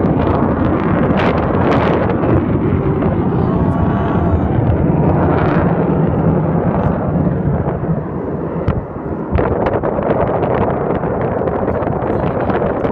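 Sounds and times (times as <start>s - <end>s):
jet engines roaring: 0.0s - 12.9s.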